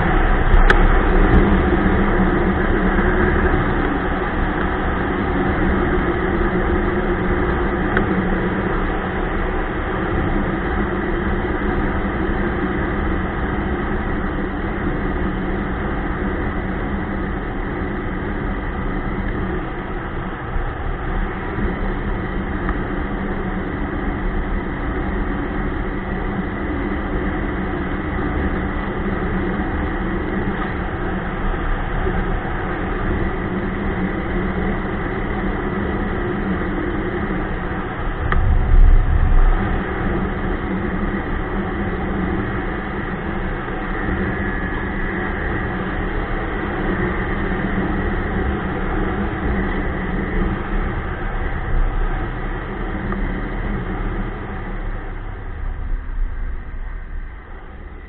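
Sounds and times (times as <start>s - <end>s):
snowmobile running: 0.0s - 58.0s.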